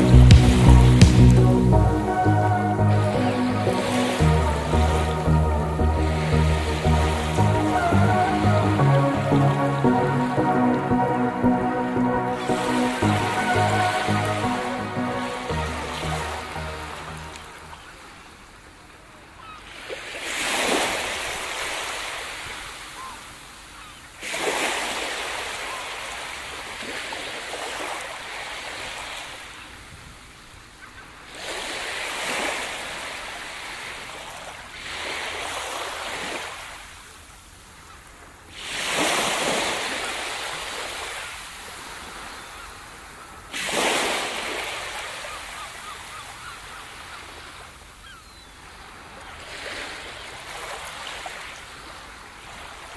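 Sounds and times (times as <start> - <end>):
ocean waves breaking: 0.0 - 29.8, 31.2 - 52.9.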